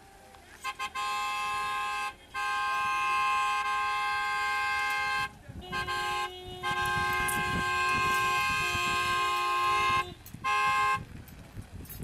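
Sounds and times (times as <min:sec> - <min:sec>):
car horns honking: 0:00.5 - 0:11.1
lower-pitched car horn: 0:00.6 - 0:11.1.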